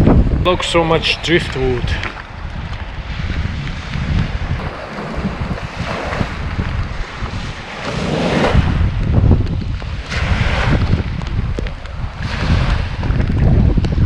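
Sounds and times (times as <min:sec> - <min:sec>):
storm waves washing ashore: 0:00.0 - 0:14.0
wind buffeting microphone: 0:00.0 - 0:14.0.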